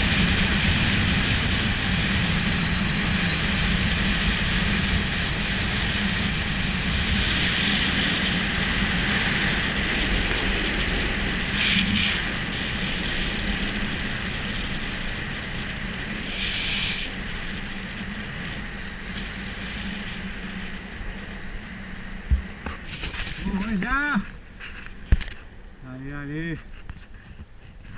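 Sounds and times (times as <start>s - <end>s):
skateboard wheels rolling on asphalt: 0.0s - 27.9s
wind rushing over microphone: 0.0s - 27.9s.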